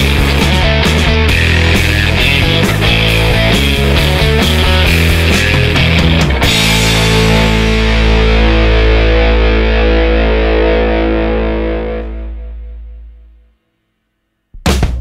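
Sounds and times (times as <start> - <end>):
rock music with distorted guitar: 0.0 - 13.3.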